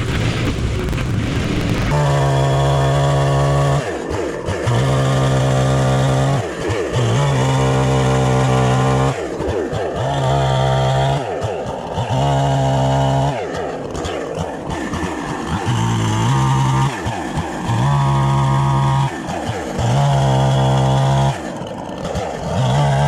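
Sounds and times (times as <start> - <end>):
chainsaw revving: 0.0 - 23.0.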